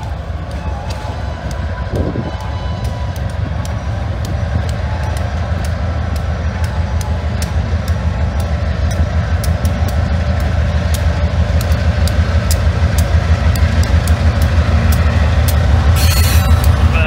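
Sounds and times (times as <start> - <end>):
diesel locomotives rumbling: 0.0 - 17.0
train wheels clicking on rails: 0.0 - 17.0.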